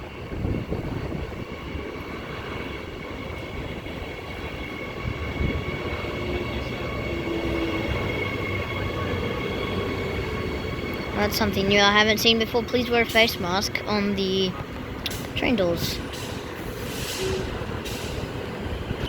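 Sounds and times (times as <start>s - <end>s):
electric train pulling in: 0.0s - 19.0s
wind buffeting microphone: 0.0s - 19.0s.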